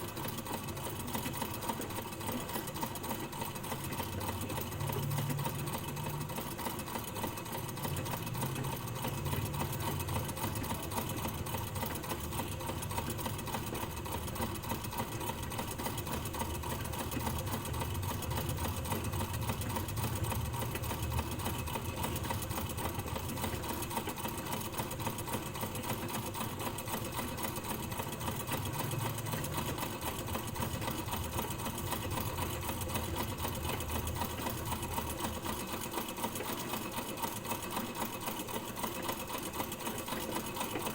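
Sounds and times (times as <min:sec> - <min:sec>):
sewing machine running: 0:00.0 - 0:40.9.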